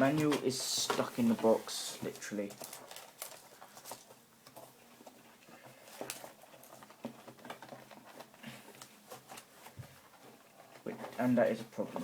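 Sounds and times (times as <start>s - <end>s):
cardboard and paper rustling: 0.0s - 12.0s.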